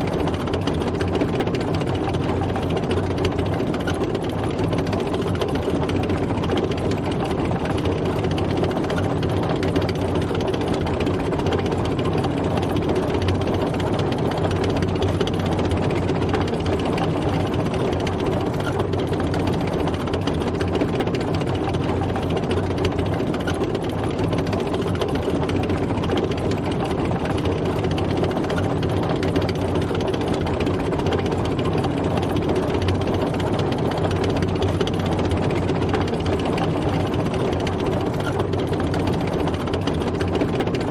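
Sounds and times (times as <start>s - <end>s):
tank engine running: 0.0s - 40.9s.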